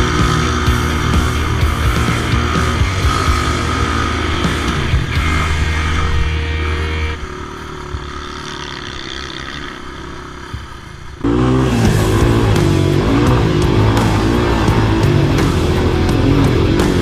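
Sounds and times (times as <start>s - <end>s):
engine revving: 0.0s - 17.0s
engines running: 0.0s - 17.0s.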